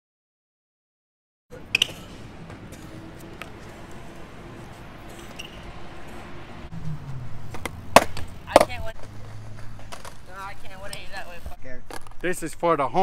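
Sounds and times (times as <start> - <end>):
bike tyres rolling on concrete: 1.5 - 13.0.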